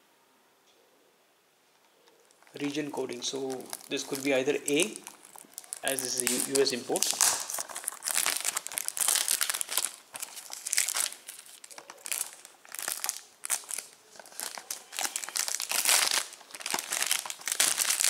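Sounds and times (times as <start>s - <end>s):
plastic shrink-wrap crinkling: 2.2s - 18.0s.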